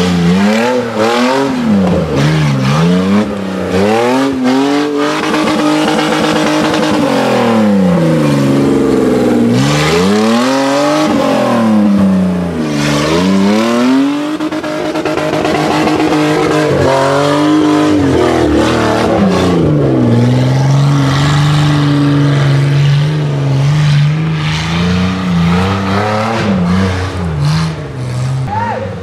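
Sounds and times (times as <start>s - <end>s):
buggy engine revving hard: 0.0s - 29.0s.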